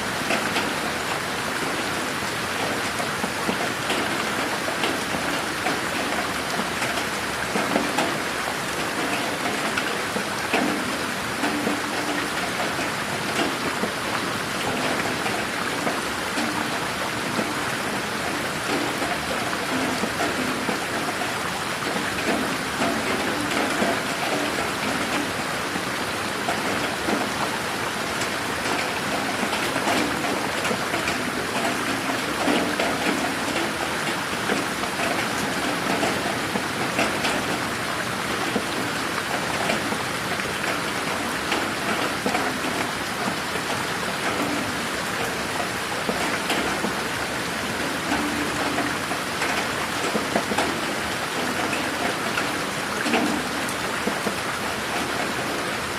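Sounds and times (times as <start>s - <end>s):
rain hissing: 0.0s - 55.9s
raindrops pattering: 0.0s - 55.9s.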